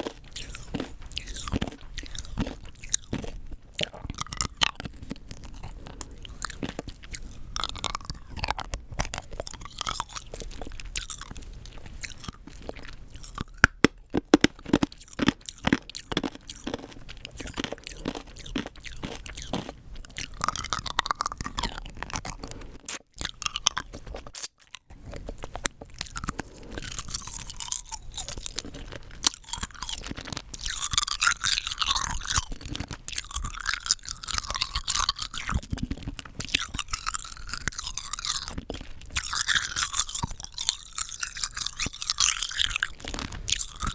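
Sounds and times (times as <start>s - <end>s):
hard candy crunching: 0.0s - 43.9s.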